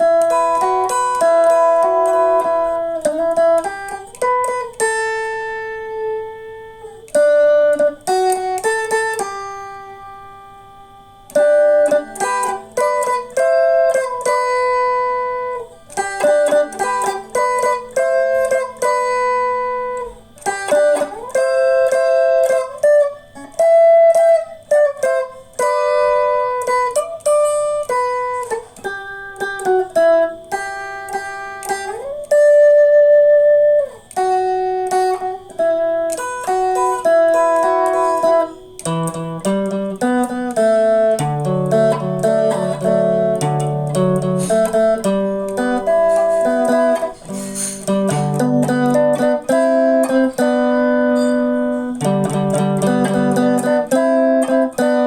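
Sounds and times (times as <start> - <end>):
slow guitar melody: 0.0 - 55.0.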